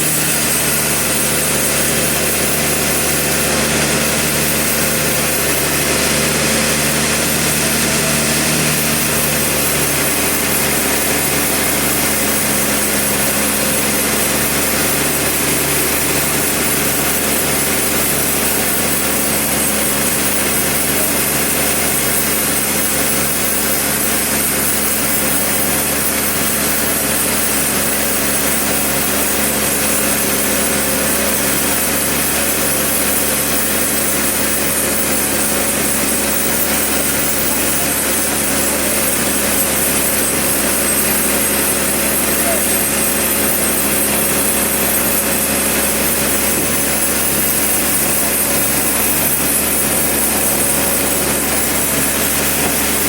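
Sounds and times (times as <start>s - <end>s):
mill engine running: 0.0s - 53.0s
sawmill saw cutting log: 0.0s - 53.0s.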